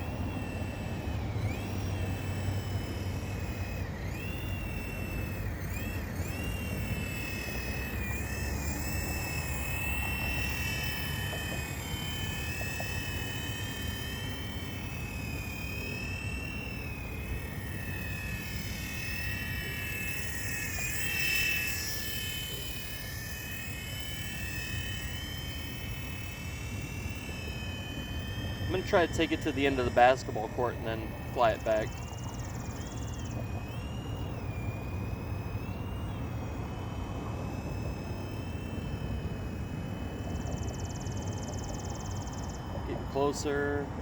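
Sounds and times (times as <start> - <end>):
toy helicopter motor whining: 0.0 - 44.0.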